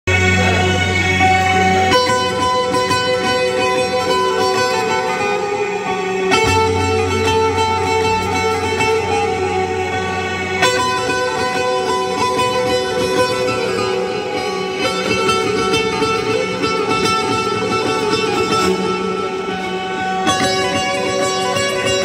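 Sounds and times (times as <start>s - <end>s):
long-necked lute melody: 0.1s - 22.0s
low held accompaniment: 0.1s - 22.0s.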